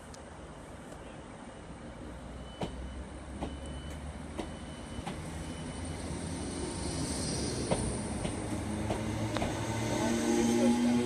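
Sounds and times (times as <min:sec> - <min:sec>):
train rumbling on rails: 0:01.8 - 0:11.0.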